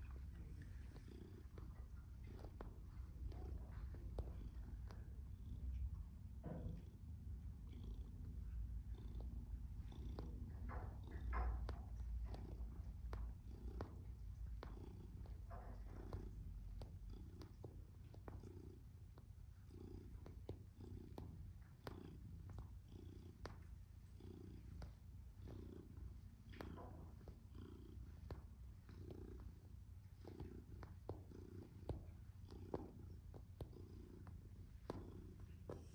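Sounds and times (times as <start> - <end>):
faint clicks: 0.0 - 7.0, 7.7 - 35.9
cat purring: 0.0 - 35.9.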